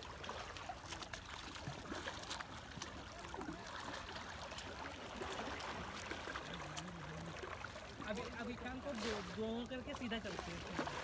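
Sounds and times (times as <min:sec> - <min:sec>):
kayak paddles dipping into water: 0:00.0 - 0:11.0
water splashing and trickling: 0:00.0 - 0:11.0.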